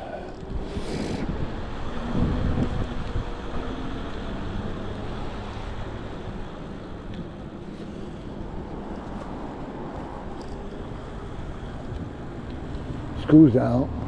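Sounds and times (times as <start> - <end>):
bike riding rumble: 0.0 - 14.0
wind buffeting microphone: 0.0 - 14.0.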